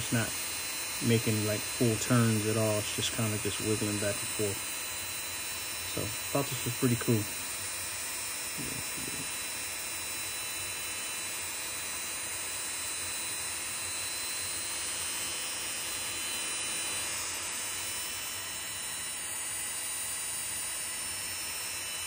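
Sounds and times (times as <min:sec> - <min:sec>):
rotary tool motor whining: 0:00.0 - 0:22.0.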